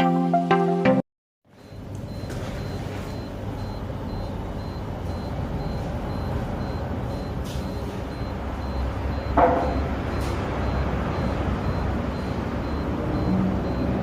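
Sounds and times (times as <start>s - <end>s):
road traffic rumble: 1.5s - 14.0s.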